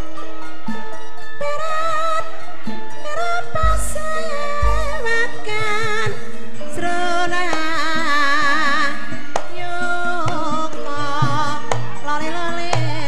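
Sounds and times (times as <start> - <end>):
person singing with vibrato: 1.4 - 13.0.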